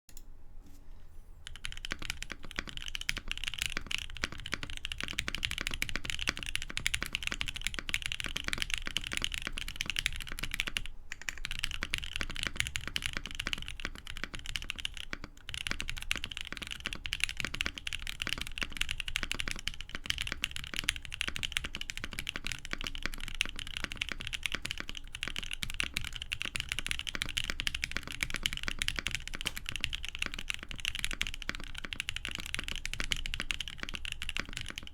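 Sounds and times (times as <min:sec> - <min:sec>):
fast mechanical keyboard typing: 0:01.4 - 0:34.9.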